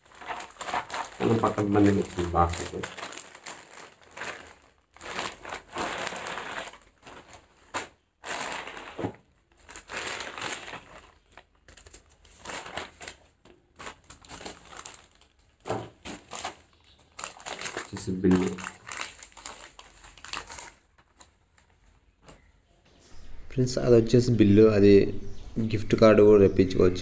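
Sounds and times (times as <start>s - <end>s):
plastic mailer bag crinkling: 0.0s - 21.9s.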